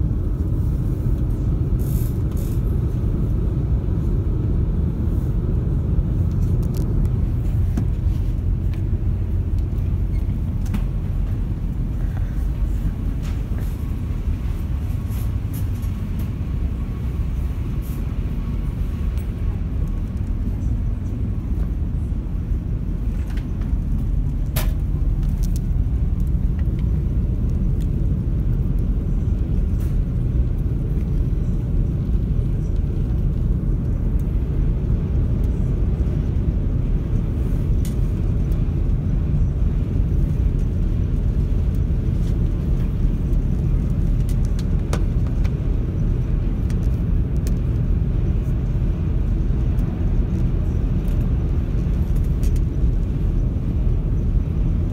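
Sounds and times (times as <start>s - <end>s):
ship engines droning: 0.0s - 54.9s
wind and water noise: 0.0s - 54.9s.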